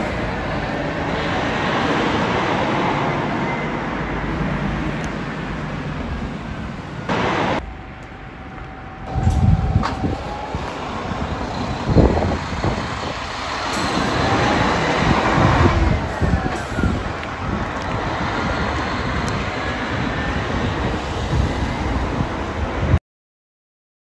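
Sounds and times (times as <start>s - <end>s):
coach engine and tyres rumbling: 0.0s - 23.0s.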